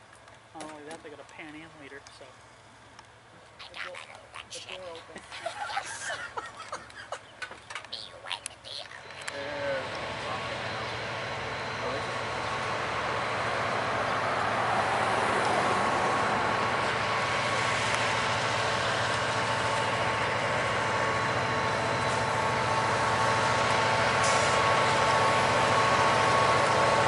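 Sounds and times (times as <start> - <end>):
diesel locomotive engines rumbling: 0.0 - 27.0.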